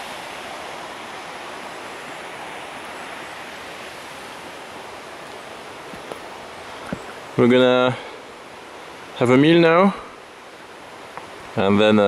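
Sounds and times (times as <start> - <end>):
rushing stream water: 0.0 - 12.0.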